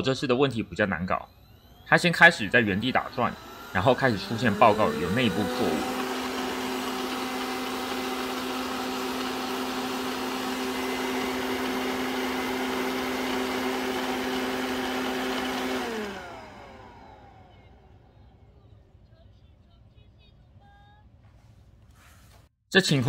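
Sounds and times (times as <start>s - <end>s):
robot vacuum fan whine: 0.0s - 18.9s.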